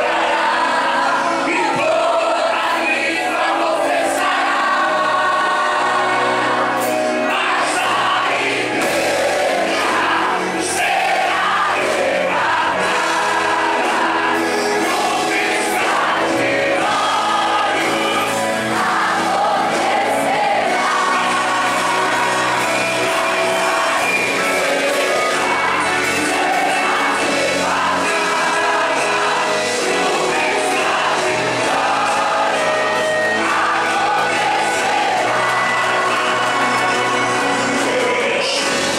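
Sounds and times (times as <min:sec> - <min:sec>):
amplified band playing: 0:00.0 - 0:38.9
congregation singing along: 0:00.0 - 0:38.9
lead singer singing: 0:00.0 - 0:38.9.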